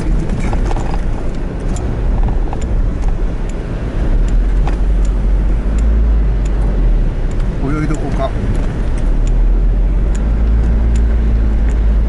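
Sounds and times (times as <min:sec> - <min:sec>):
tyres and wind rumble: 0:00.0 - 0:12.0
light ticks: 0:00.2 - 0:12.0.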